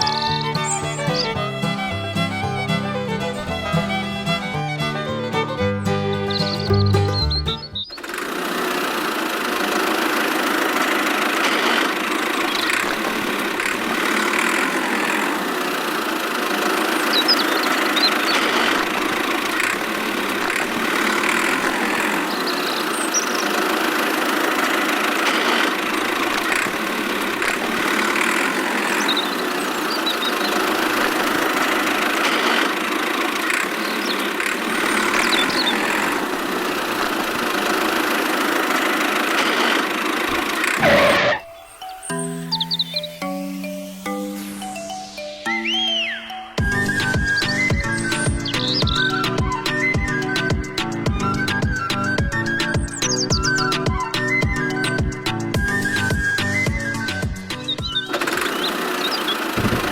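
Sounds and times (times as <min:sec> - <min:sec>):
small tractor motor running: 0:00.0 - 0:41.5, 0:46.6 - 0:59.9.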